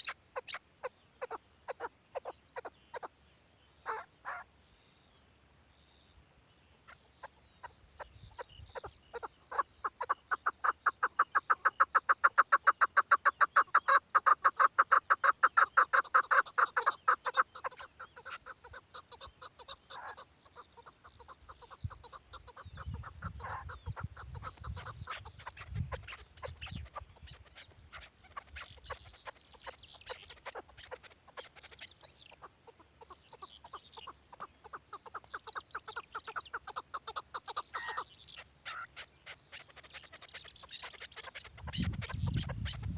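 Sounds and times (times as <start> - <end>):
partridge rapid clucking calls: 0.0 - 3.2, 3.8 - 4.5, 6.7 - 42.9.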